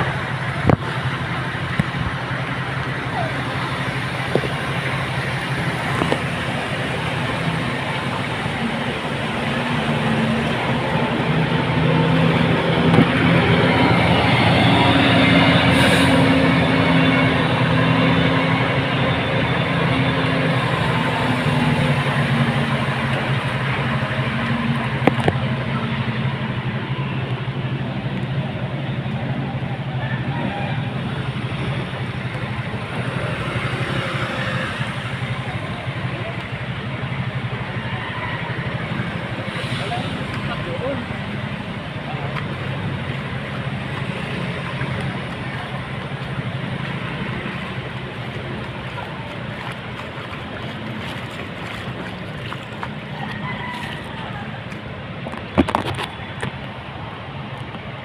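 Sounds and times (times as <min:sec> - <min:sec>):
street noise: 0:00.0 - 0:58.0
vehicle engines humming: 0:00.0 - 0:58.0.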